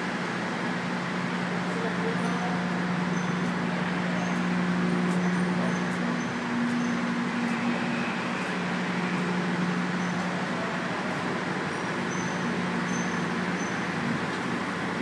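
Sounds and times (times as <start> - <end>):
industrial machinery hum: 0.0 - 15.0.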